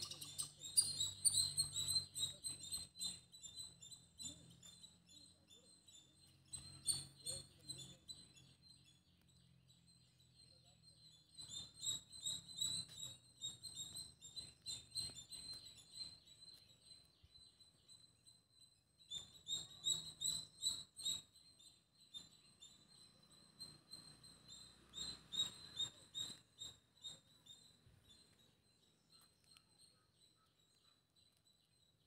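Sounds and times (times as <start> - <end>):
small bird chirping rapidly: 0.0 - 32.0.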